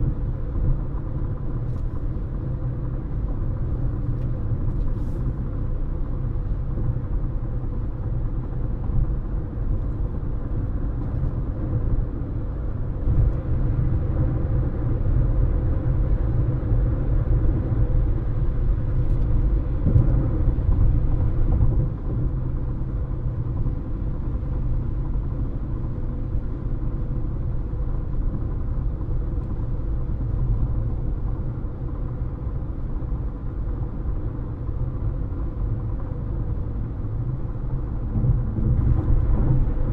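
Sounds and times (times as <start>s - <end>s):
car tyre and road noise: 0.0s - 39.9s
faint constant hum: 0.0s - 39.9s.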